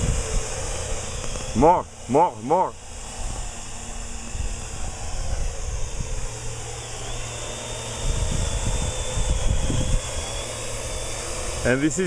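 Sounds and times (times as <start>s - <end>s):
wind rumbling on microphone: 0.0s - 1.8s, 3.0s - 12.0s
drone rotors whining: 0.0s - 12.0s
thin high drone tone: 0.0s - 12.0s.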